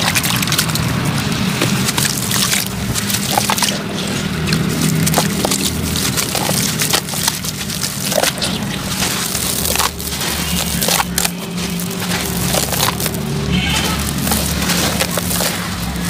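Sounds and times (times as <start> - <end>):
wet cement clumps crunching: 0.0 - 16.0.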